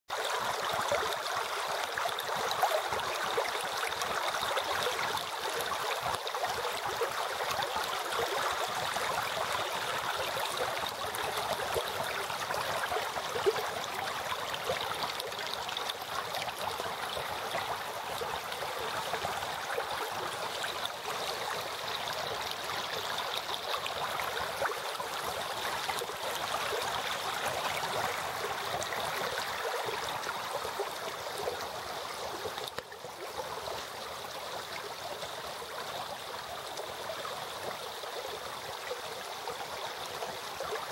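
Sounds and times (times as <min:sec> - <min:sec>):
stream babbling and splashing: 0:00.1 - 0:40.9.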